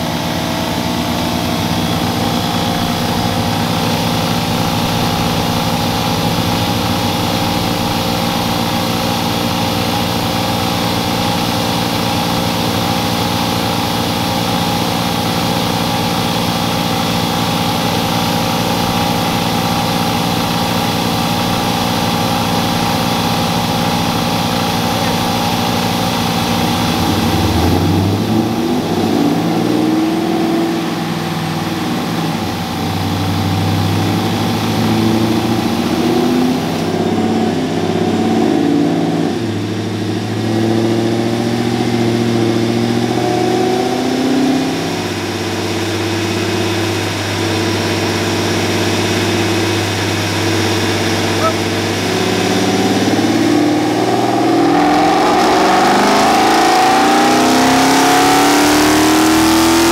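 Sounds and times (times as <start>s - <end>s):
pickup truck engine revving: 0.0s - 59.9s.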